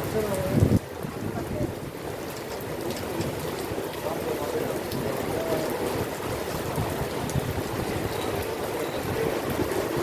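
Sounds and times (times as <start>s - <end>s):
heavy rain on pavement: 0.0s - 10.0s
rain splashing into water: 0.0s - 10.0s.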